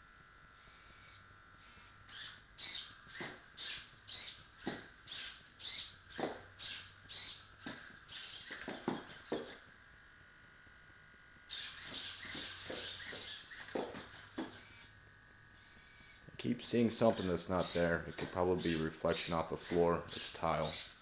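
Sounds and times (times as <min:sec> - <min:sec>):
servo motors whirring: 0:00.5 - 0:09.7, 0:11.4 - 0:21.0.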